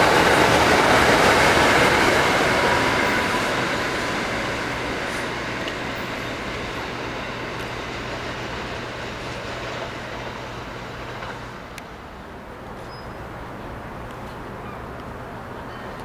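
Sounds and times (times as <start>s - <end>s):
electric train rumbling away: 0.0s - 16.0s.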